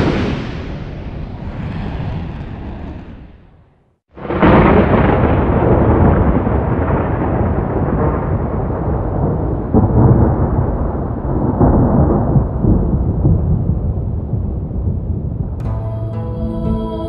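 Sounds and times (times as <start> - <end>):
rolling thunder rumble: 0.0 - 3.6, 4.2 - 16.2
thunder crack: 0.0 - 3.6, 4.2 - 17.0.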